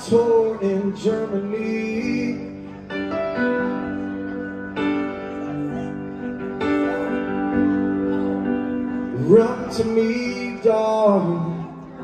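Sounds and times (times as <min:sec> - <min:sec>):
piano playing slow chords: 0:00.0 - 0:12.0.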